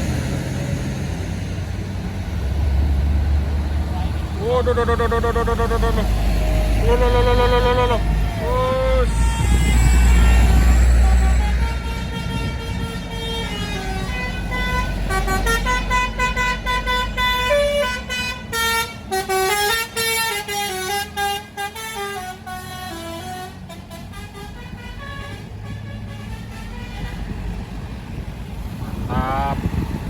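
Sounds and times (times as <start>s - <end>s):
bus engine running: 0.0s - 30.0s
multi-tone bus horn tune: 4.4s - 27.6s, 28.9s - 30.0s.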